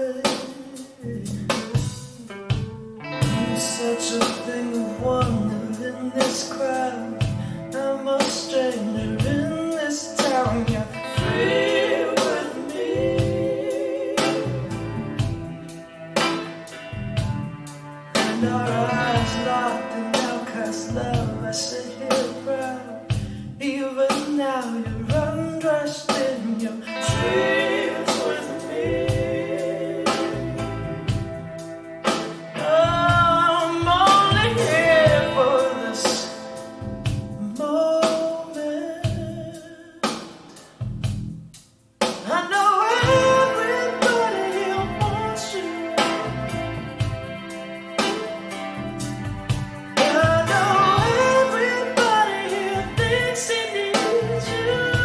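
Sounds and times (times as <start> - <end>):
rock folk song through speakers: 0.0 - 41.0, 42.0 - 55.0.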